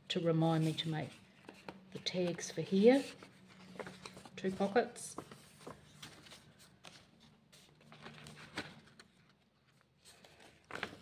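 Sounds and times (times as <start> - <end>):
paper rustling: 0.6 - 11.0
page turning: 1.3 - 11.0.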